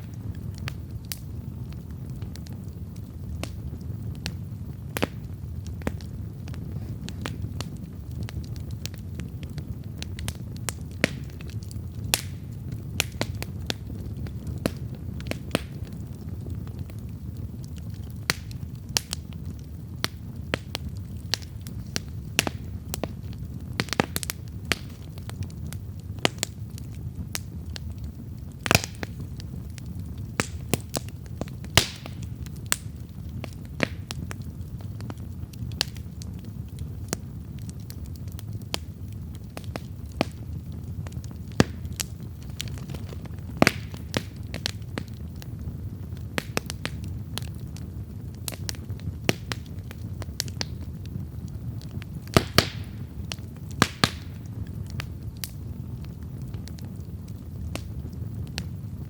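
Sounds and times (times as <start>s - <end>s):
campfire crackling and popping: 0.0s - 59.0s
low rumble of flame: 0.0s - 59.0s.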